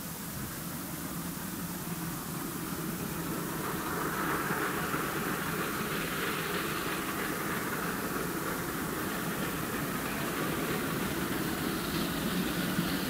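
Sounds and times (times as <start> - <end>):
distant steam train rumbling: 0.0 - 13.0
film soundtrack hiss: 0.0 - 13.0.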